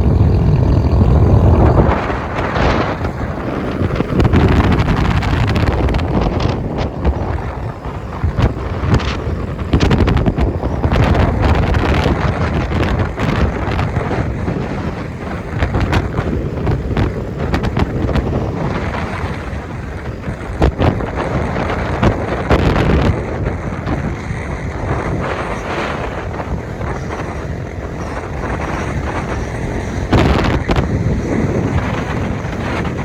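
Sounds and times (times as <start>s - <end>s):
low vehicle rumble: 0.0s - 33.0s
wind buffeting microphone: 0.0s - 33.0s.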